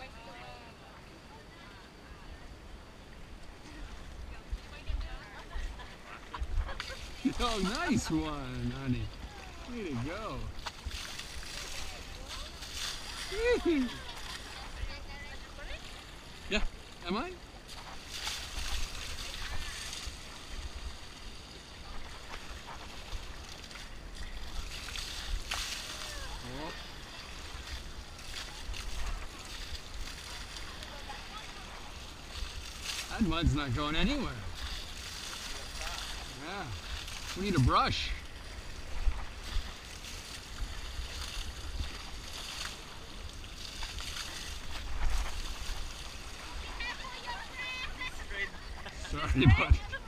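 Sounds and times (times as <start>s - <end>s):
river water splashing: 0.0s - 50.0s
wind rumble on microphone: 2.0s - 16.8s, 17.5s - 50.0s.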